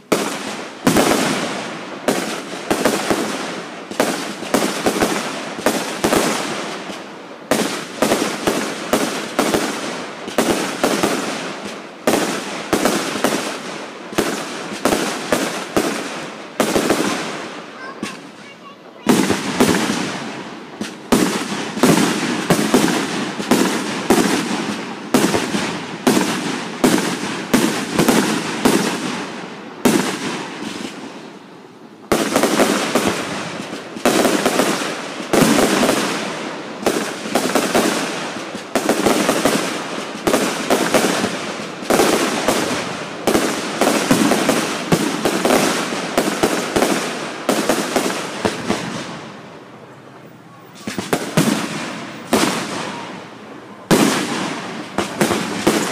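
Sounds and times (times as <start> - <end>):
fireworks bangs: 0.0 - 55.9.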